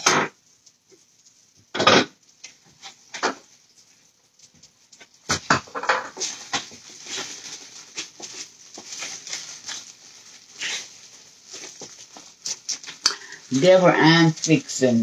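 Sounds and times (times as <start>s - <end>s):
plastic bag crinkling: 0.3s - 15.0s.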